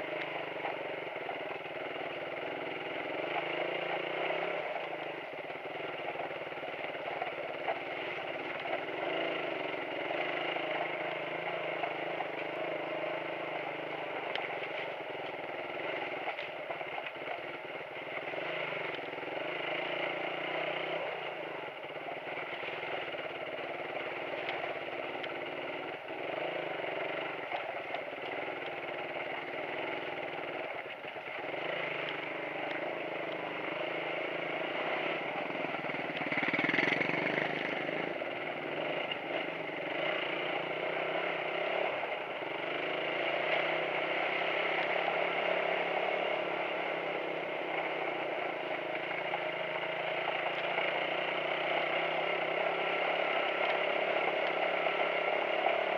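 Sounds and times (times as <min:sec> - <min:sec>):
motorcycle engine running: 0:00.0 - 0:55.9
motorcycle passing close by: 0:00.0 - 0:55.9.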